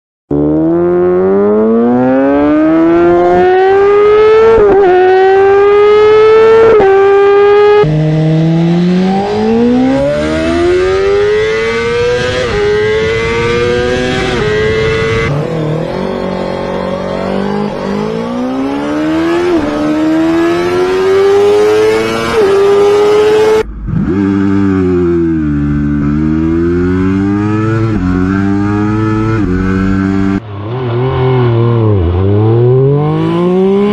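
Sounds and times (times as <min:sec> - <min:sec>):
motorcycle engines accelerating: 0:00.3 - 0:33.9.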